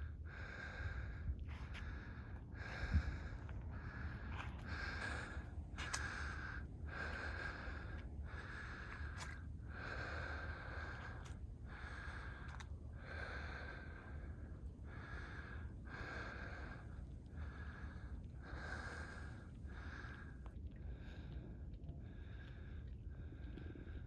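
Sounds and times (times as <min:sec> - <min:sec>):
low rumble: 0:00.0 - 0:24.0
person breathing hard: 0:00.0 - 0:24.0.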